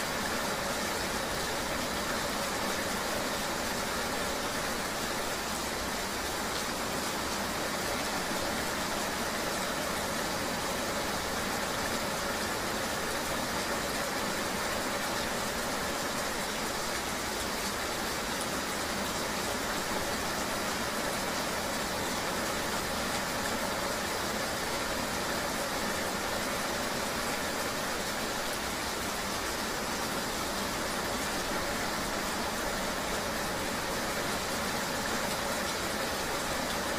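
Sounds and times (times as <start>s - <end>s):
steady rain: 0.0s - 36.9s.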